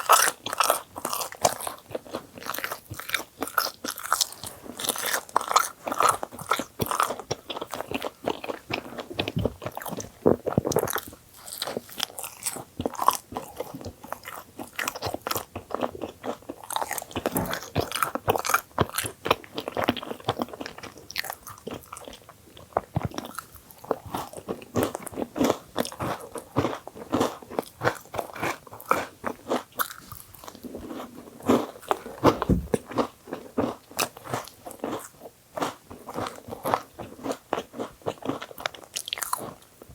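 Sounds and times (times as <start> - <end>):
biting and chewing sandwich: 0.0 - 39.9.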